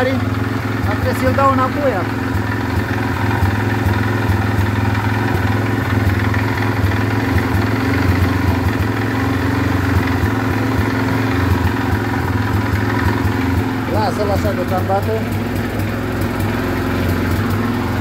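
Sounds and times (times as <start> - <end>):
atv engine idling: 0.0 - 18.0.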